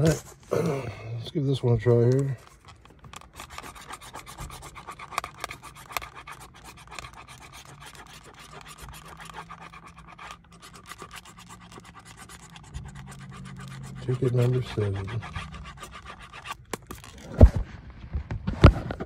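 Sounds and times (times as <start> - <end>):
coin scratching a ticket: 1.8 - 17.2.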